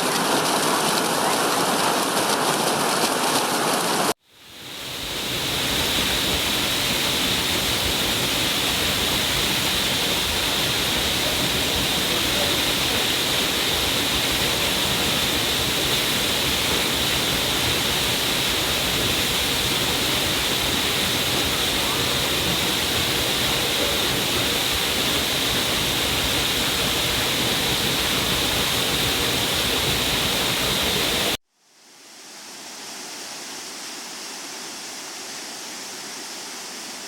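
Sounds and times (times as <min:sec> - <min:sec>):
waterfall rushing: 0:00.0 - 0:31.4.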